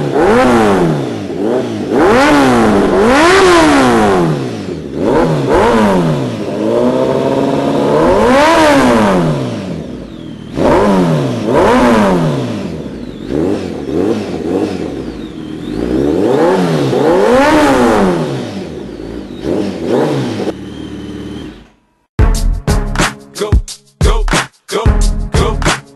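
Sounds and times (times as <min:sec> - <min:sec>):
motorcycle engine revving: 0:00.0 - 0:22.1.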